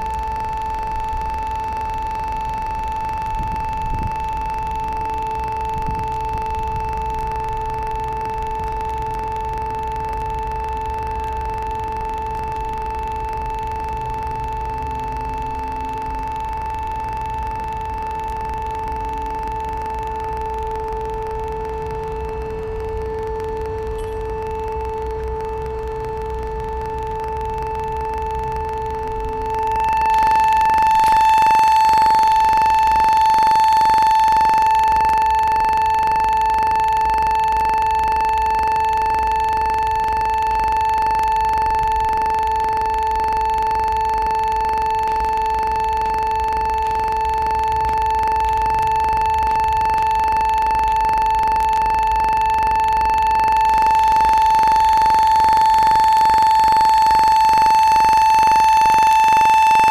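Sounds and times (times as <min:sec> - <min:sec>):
steady tuning tone: 0:00.0 - 0:59.9.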